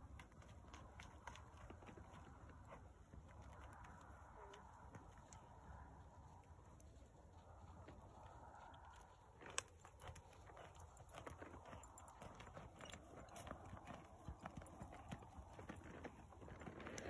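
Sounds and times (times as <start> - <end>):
horse hooves on soft dirt: 0.0 - 17.0.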